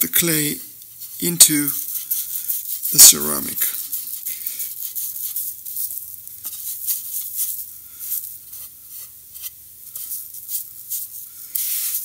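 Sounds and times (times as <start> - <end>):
fingers rubbing wet clay: 0.9 - 12.0.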